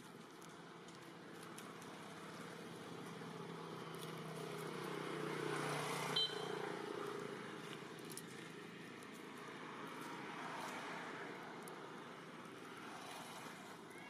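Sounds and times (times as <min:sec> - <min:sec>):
vehicle engine passing by: 0:01.6 - 0:13.9.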